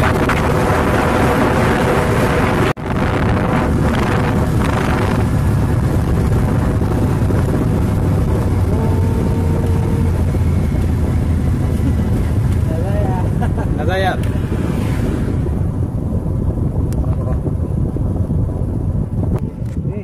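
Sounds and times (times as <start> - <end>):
vehicle rumble: 0.0 - 20.0
wind rushing over microphone: 0.0 - 20.0.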